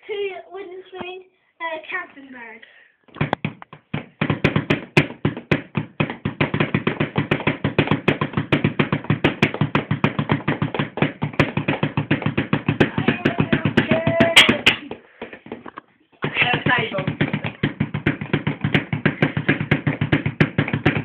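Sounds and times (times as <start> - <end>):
wooden spoons drumming on foam mat: 3.1 - 21.0.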